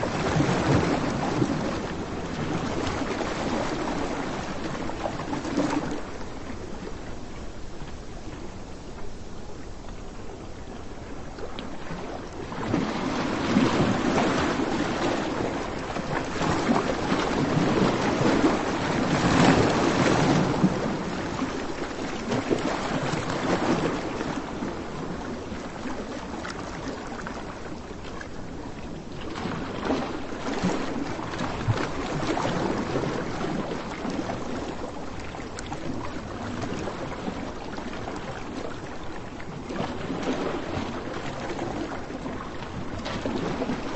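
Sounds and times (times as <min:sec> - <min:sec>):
waves breaking: 0:00.0 - 0:43.9
wind: 0:00.0 - 0:43.9.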